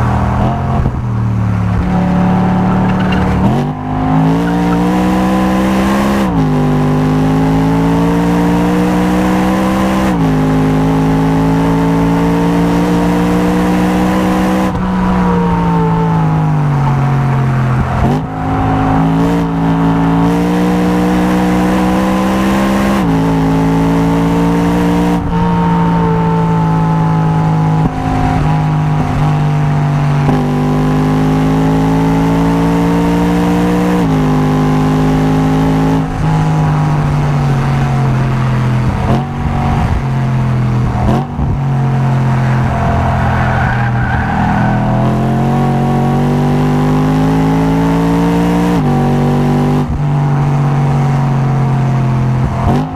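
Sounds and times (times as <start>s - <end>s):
car engine at full throttle: 0.0s - 52.9s.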